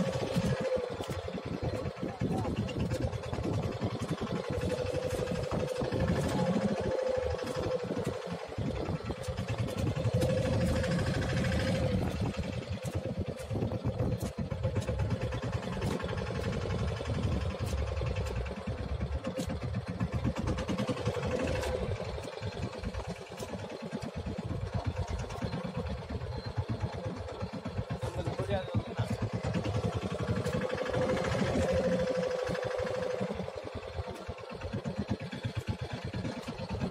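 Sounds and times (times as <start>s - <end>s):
boat engine throbbing: 0.0s - 36.9s.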